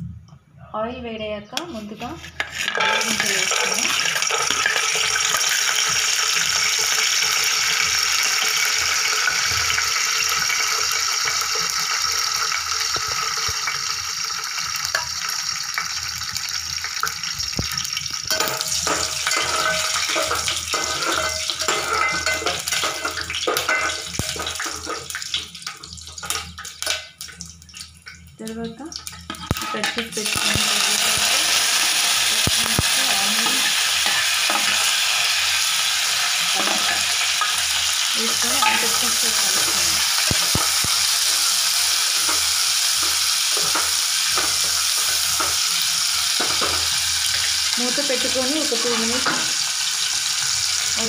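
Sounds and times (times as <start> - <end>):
peanuts sizzling in hot oil: 1.6 - 51.0.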